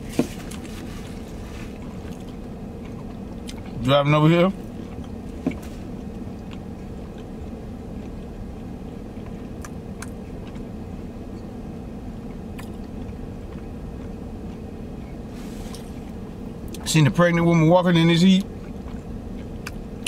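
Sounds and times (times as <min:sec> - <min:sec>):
low hum inside car cabin: 0:00.0 - 0:20.0.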